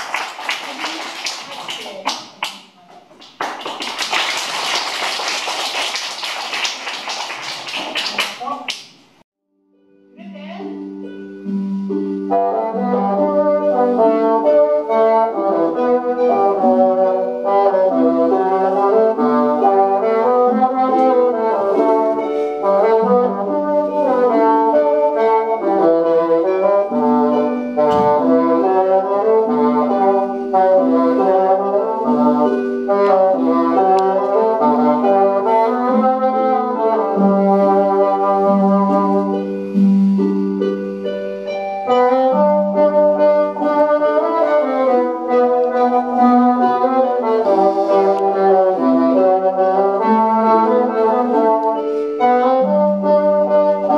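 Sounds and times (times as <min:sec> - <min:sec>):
bassoon melody: 0:09.8 - 0:53.9.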